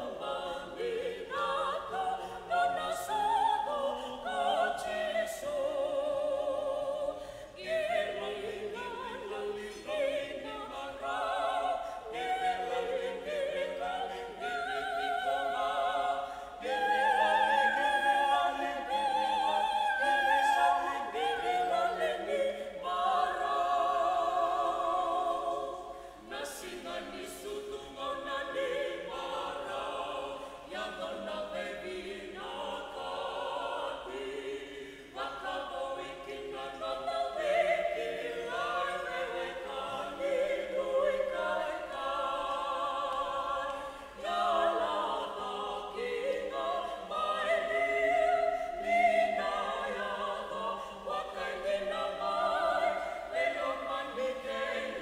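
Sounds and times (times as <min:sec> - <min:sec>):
vocal ensemble singing in harmony: 0:00.0 - 0:55.0.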